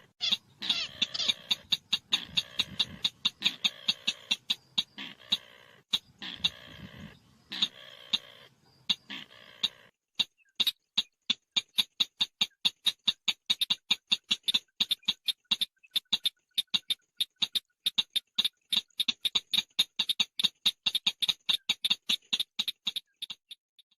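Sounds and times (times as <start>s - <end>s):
bird calling in sharp chips: 0.0s - 23.6s.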